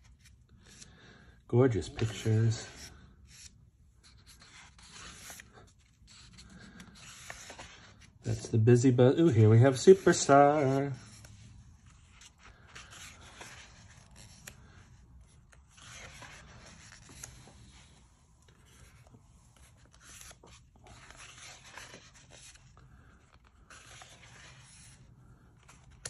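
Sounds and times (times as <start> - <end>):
book pages turning: 0.0 - 1.0, 1.6 - 26.0.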